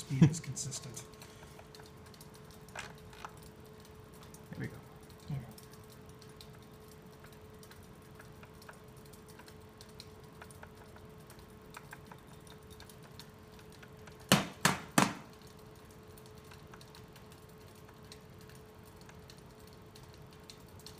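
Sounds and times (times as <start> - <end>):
faint hum of spinning wheel: 0.0 - 20.9.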